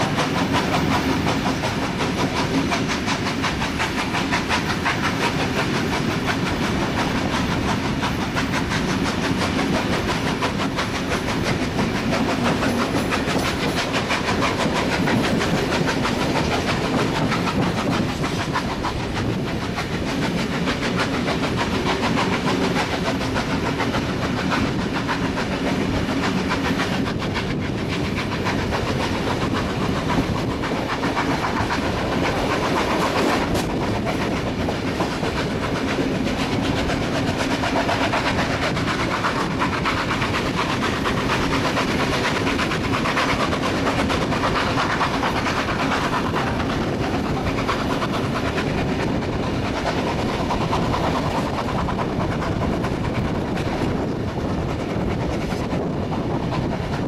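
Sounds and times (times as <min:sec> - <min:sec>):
wheels clicking over rails: 0:00.0 - 0:55.9
moving train noise: 0:00.0 - 0:57.0.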